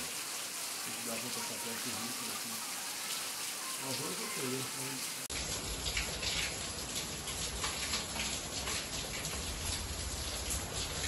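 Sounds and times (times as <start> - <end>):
heavy rain falling: 0.0 - 11.0
water dripping off roof edge: 0.0 - 11.0.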